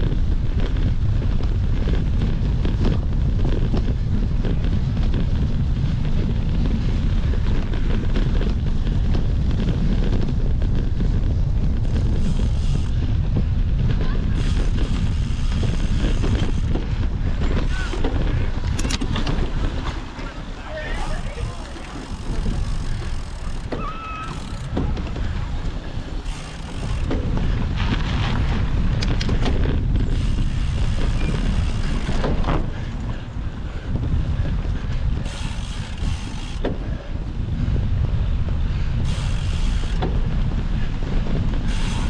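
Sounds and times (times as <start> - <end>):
bike knocks and rattles: 0.0 - 42.0
wind rumbling on microphone: 0.0 - 42.0.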